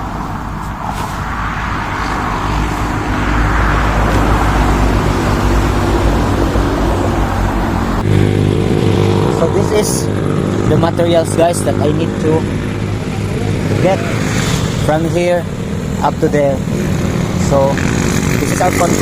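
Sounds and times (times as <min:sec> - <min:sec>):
vehicle engine running: 0:01.8 - 0:19.0.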